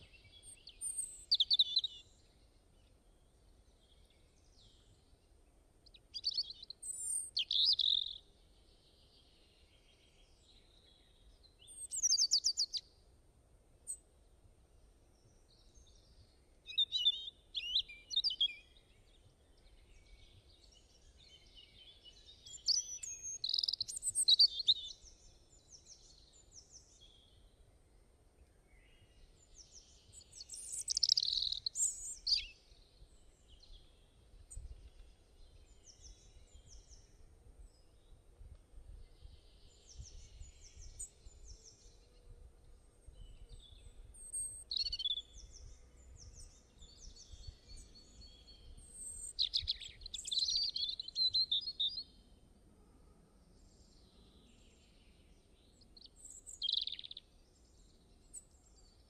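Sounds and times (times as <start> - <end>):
songbirds chirping and trilling: 0.0 - 13.2, 13.8 - 59.0
faint background noise: 0.0 - 59.0.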